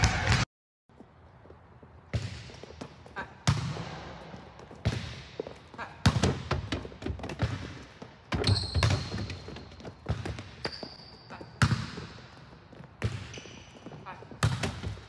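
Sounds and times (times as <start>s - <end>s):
sneakers squeaking: 1.0s - 15.0s.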